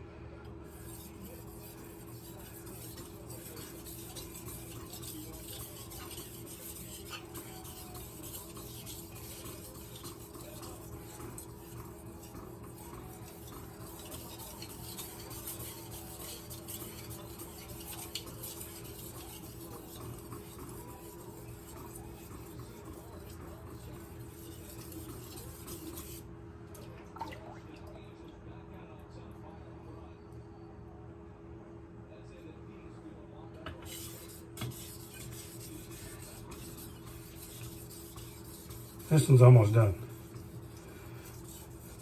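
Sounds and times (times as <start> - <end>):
knife scraping on whetstone: 0.7 - 26.3, 33.7 - 42.0.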